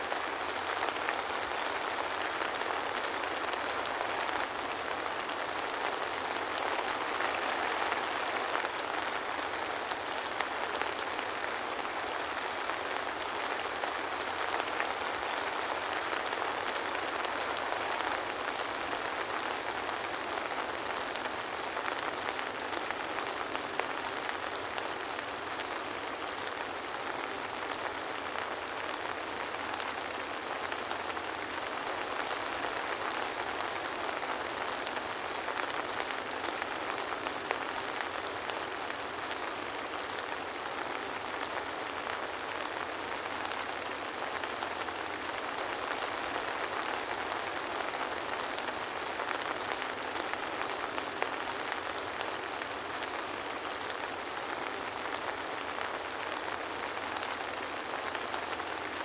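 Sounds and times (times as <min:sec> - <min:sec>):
soft rain hiss: 0:00.0 - 0:59.0.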